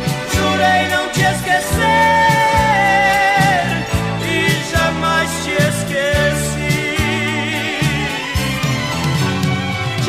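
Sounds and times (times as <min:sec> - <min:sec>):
country song with bass line: 0:00.0 - 0:10.0.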